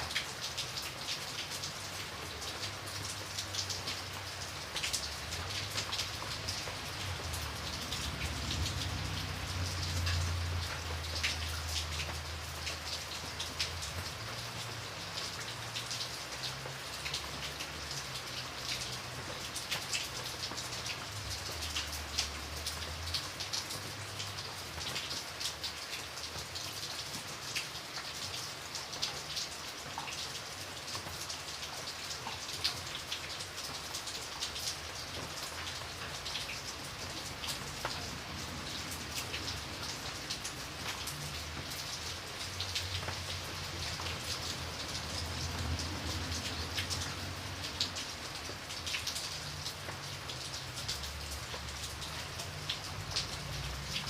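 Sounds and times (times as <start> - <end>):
rain pattering on hard surface: 0.0 - 54.0.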